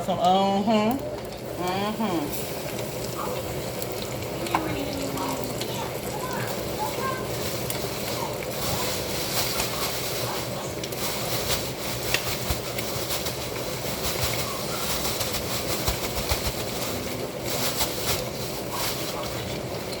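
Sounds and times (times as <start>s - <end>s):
fish frying in hot oil: 0.7s - 20.0s.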